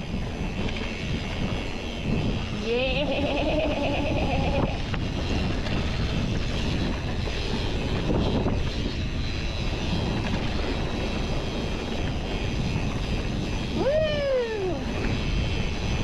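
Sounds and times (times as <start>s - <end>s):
bike tyre and frame rattle: 0.0s - 16.0s
wind rush on microphone: 0.0s - 16.0s.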